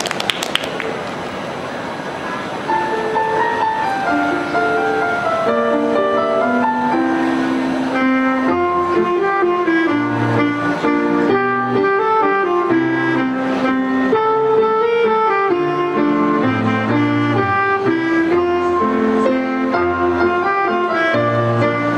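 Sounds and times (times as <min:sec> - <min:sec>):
keyboard accompaniment: 0:02.5 - 0:21.9
saxophone melody: 0:03.2 - 0:21.9.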